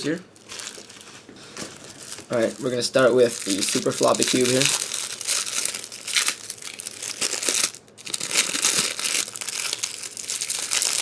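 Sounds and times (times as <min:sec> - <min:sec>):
packaging crinkling: 0:00.3 - 0:11.0.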